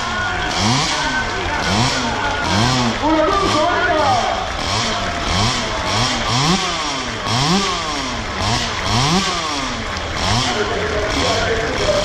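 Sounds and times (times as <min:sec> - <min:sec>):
engine revving in short blips: 0:00.0 - 0:03.7, 0:04.3 - 0:12.0.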